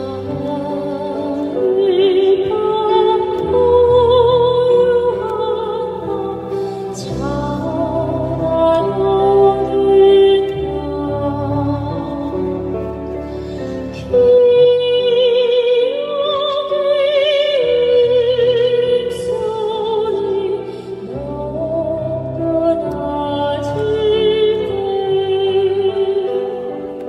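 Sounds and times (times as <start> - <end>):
woman singing with vibrato: 0.0 - 13.0, 13.9 - 27.0.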